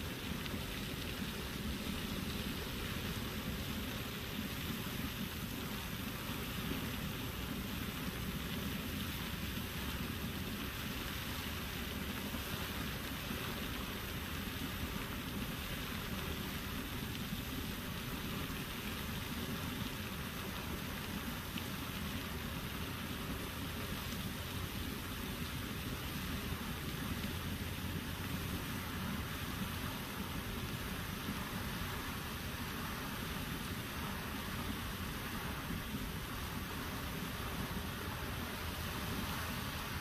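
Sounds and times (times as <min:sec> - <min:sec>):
geyser jetting water: 0:00.0 - 0:40.0.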